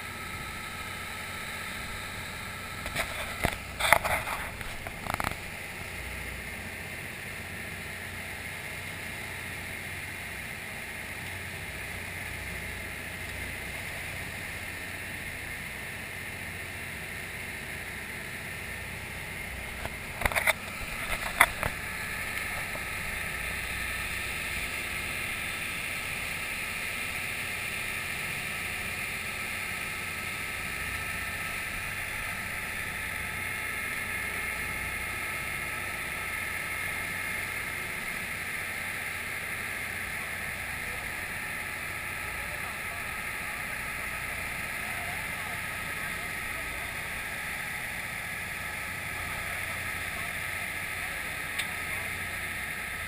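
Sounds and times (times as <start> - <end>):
water rushing along hull: 0.0 - 53.0
wind: 0.0 - 53.0.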